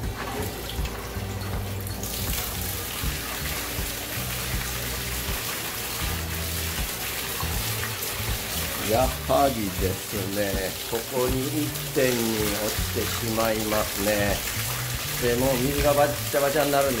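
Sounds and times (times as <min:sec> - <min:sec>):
waterfall splashing into pool: 0:00.0 - 0:17.0.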